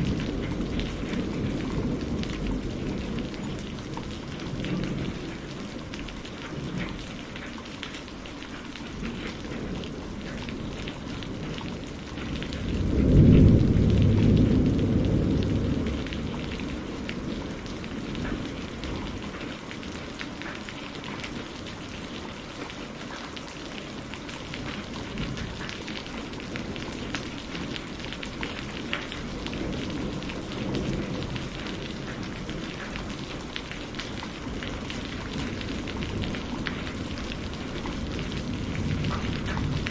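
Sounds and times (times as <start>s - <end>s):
low thunder rumble: 0.0s - 7.4s, 8.8s - 20.1s, 23.9s - 39.9s
steady rain with ticking drops: 0.0s - 39.9s.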